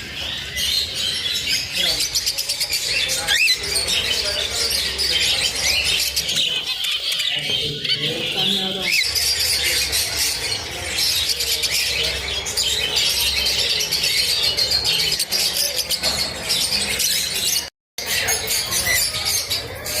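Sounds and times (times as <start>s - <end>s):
parrots chirping and chattering: 0.0s - 20.0s.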